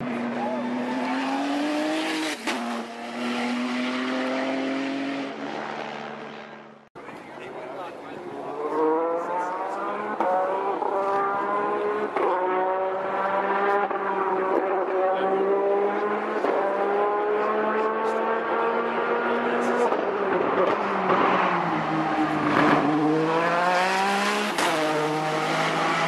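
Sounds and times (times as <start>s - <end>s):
race car engine upshifting: 0.0s - 6.6s, 8.2s - 26.0s.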